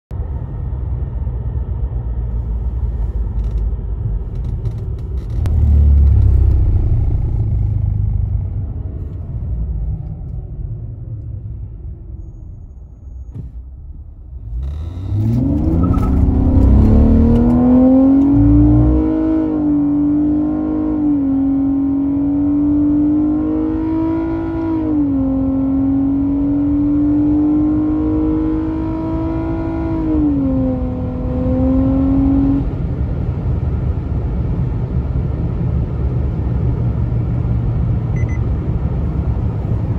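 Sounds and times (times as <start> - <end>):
road and tyre rumble: 0.1 - 39.9
car engine at full throttle: 0.2 - 11.8, 13.8 - 39.9.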